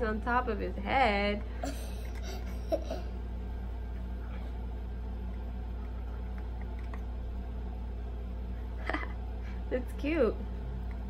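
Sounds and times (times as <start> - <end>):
low hum of room tone: 0.0 - 11.0.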